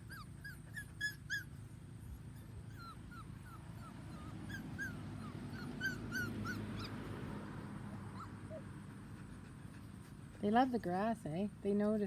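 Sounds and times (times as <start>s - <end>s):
puppies whimpering: 0.0s - 7.3s, 8.0s - 10.6s.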